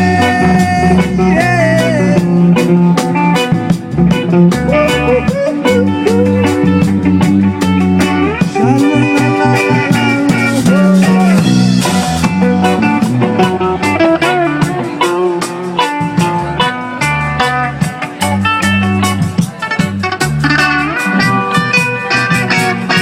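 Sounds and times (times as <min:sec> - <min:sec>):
bass guitar: 0:00.0 - 0:23.0
drum and cymbal hits: 0:00.0 - 0:23.0
electric guitar lead with bending notes: 0:00.0 - 0:23.0.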